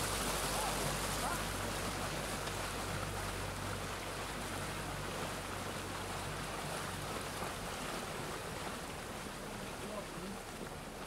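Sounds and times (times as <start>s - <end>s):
motorboat engine hum: 0.0s - 11.0s
water rushing past hull: 0.0s - 11.0s.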